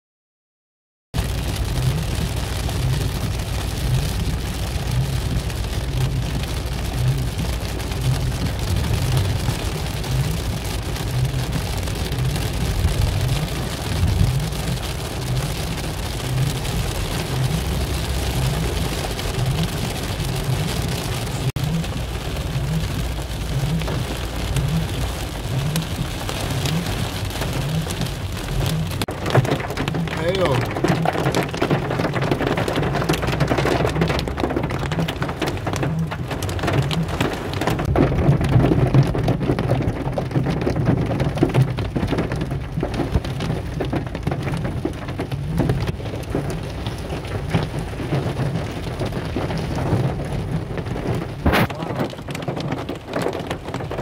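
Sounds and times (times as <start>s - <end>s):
car rumble: 1.2s - 54.0s
heavy rain on car roof: 1.2s - 54.0s.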